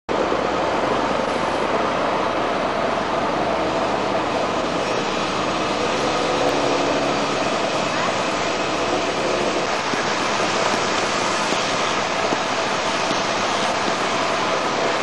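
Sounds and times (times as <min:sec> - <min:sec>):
city ambience rushing noise: 0:00.1 - 0:15.0.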